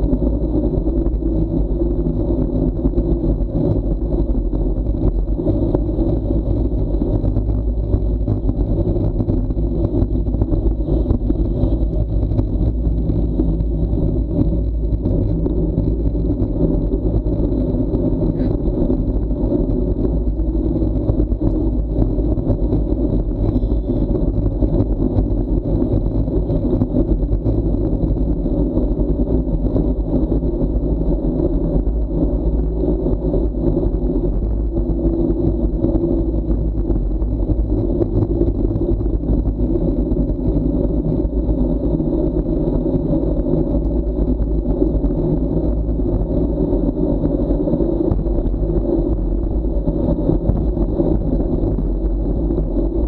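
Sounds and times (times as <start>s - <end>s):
wind rumble: 0.0s - 53.0s.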